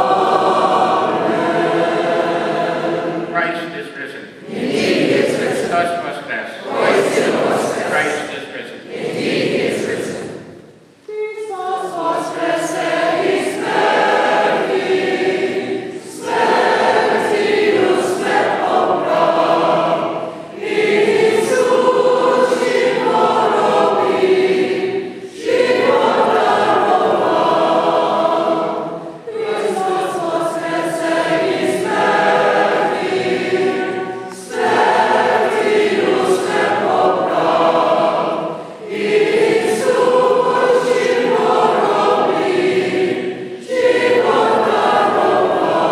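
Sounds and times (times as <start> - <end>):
choir singing unaccompanied chant: 0.0 - 3.8, 4.4 - 45.9.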